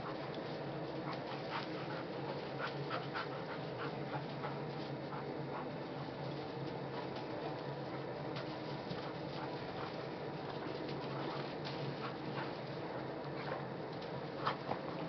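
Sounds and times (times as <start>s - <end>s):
dogs panting: 0.0s - 15.0s
dogs scuffling in snow: 0.0s - 15.0s
steady low hum: 0.0s - 15.0s.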